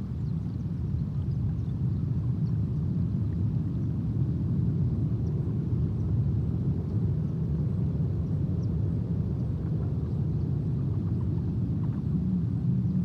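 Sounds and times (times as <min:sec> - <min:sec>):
steady low rumbling noise: 0:00.0 - 0:13.0.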